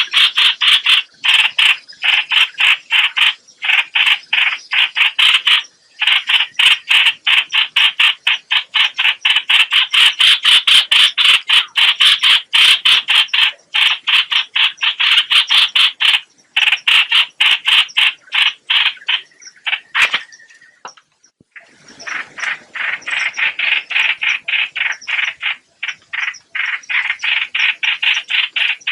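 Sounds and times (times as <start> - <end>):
rasping bird chatter: 0.0 - 28.9.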